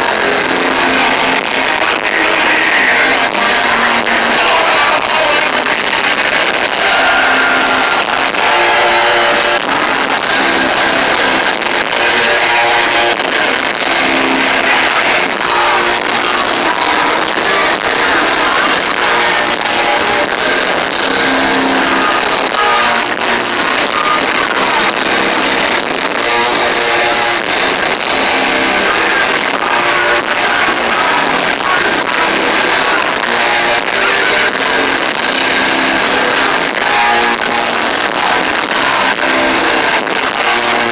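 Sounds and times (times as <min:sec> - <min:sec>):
live heavy rock band: 0:00.0 - 0:40.9.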